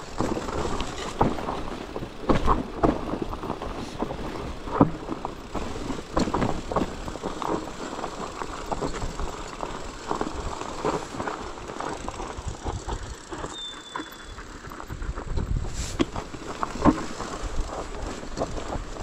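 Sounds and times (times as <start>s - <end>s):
bike knocks and rattles: 0.0s - 19.0s
tyres rumbling on rock and dirt: 0.0s - 19.0s.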